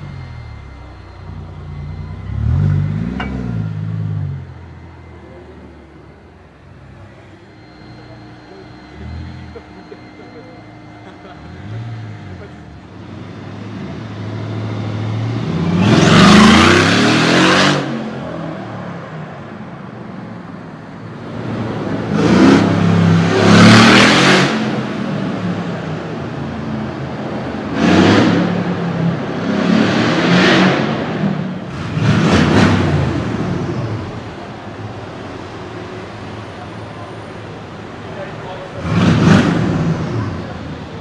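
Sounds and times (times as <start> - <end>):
car engines accelerating hard: 0.0 - 41.0
traffic background: 0.0 - 41.0.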